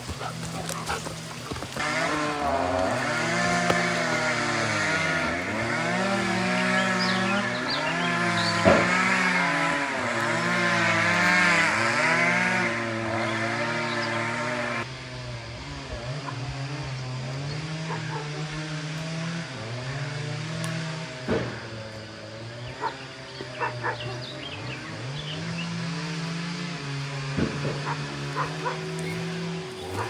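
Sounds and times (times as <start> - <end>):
birds chirping: 0.0 - 19.4, 20.1 - 30.0
engine running: 0.0 - 30.0.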